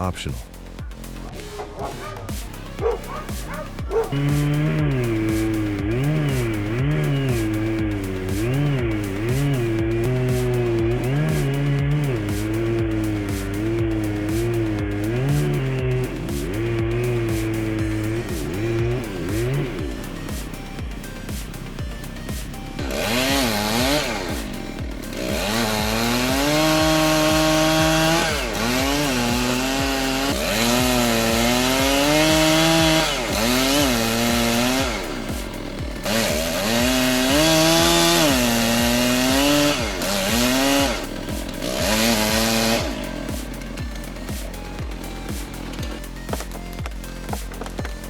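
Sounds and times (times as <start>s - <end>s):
background music with beat: 0.0s - 48.0s
chainsaw revving: 0.0s - 48.0s.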